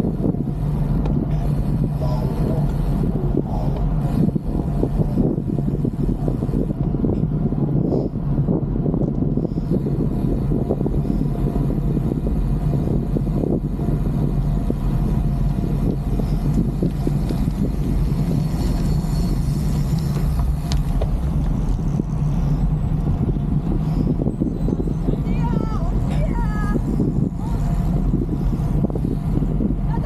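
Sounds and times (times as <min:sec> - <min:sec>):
road noise: 0:00.0 - 0:30.0
wind buffeting microphone: 0:00.0 - 0:30.0.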